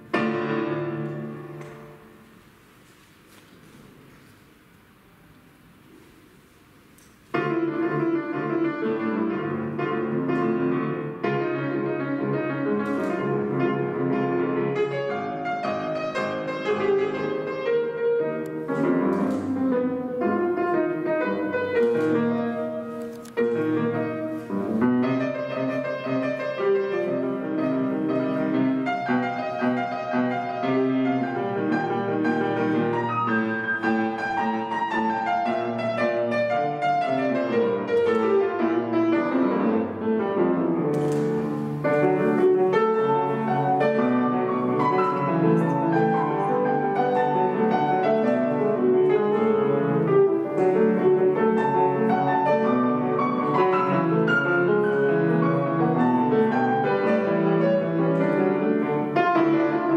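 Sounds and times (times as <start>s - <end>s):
classical piano piece: 0.0s - 59.9s.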